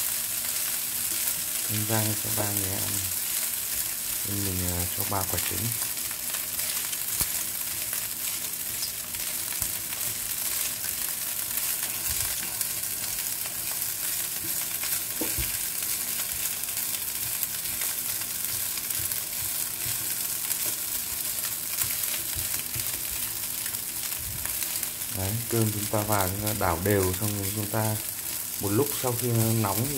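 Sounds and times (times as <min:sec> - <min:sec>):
food sizzling in a frying pan: 0:00.0 - 0:29.9.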